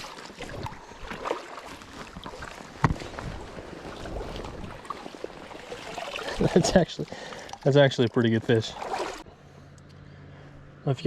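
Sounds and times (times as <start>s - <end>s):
water splashing: 0.0s - 9.3s.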